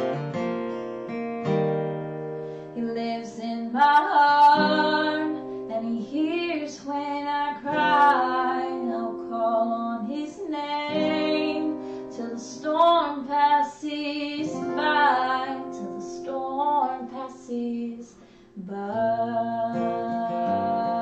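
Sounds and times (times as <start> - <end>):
strummed acoustic guitar: 0.0 - 21.0
woman singing gospel song: 2.8 - 21.0.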